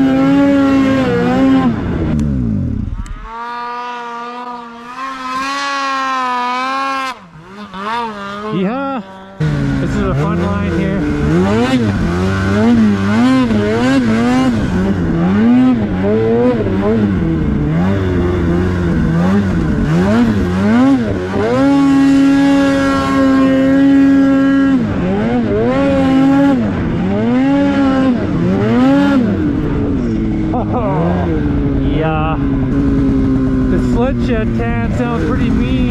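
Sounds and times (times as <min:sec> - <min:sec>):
snowmobile engine revving: 0:00.0 - 0:35.9.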